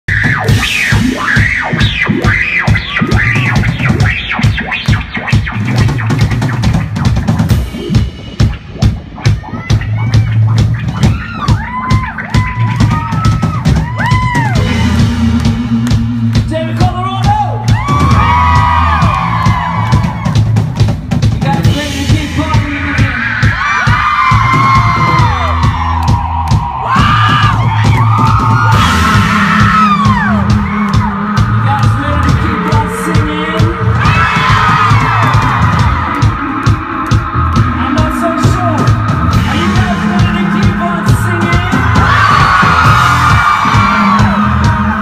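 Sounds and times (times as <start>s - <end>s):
drum kit pounding: 0.0s - 45.0s
live rock band playing: 0.1s - 45.0s.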